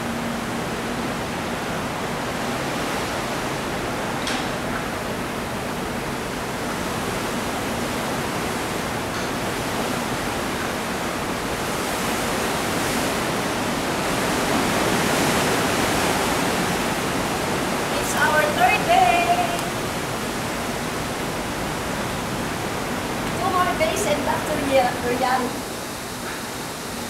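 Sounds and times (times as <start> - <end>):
wind and sea rushing: 0.0 - 27.0.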